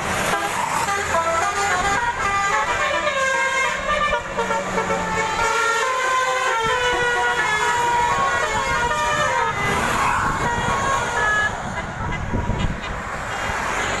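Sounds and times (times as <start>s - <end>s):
low rumbling vehicle noise: 0.0s - 14.0s
tuned bus air horns: 0.2s - 13.6s.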